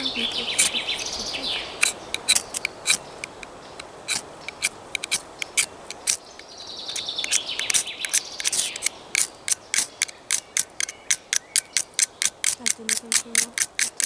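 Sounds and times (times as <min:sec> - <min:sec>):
firesteel scraping: 0:00.0 - 0:14.0.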